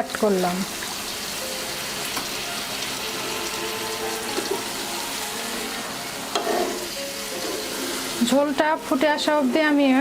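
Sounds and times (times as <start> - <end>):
water hissing in hot pan: 0.0 - 10.0.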